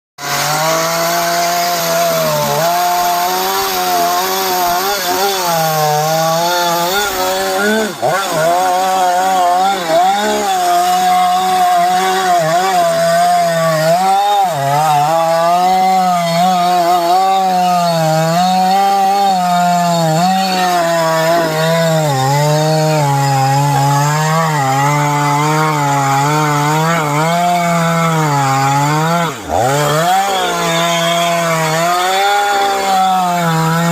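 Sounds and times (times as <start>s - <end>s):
chainsaw cutting wood: 0.2s - 33.9s.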